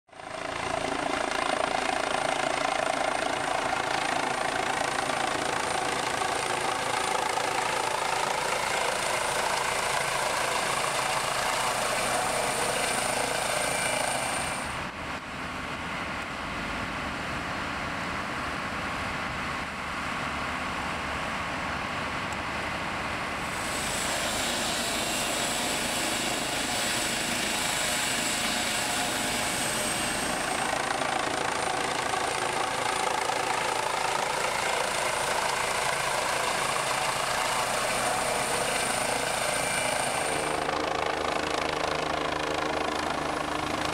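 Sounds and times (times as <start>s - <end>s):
helicopter rotor and engine: 0.1s - 43.9s
high turbine whine: 0.2s - 43.9s.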